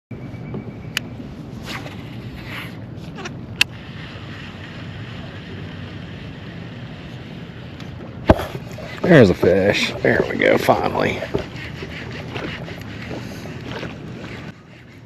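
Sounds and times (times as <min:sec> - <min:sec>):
water around a kayak: 0:00.2 - 0:15.0.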